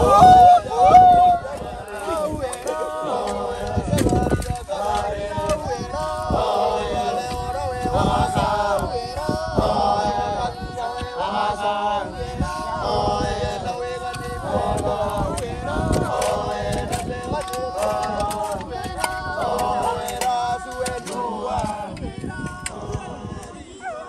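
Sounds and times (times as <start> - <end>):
men chanting together: 0.0 - 24.0.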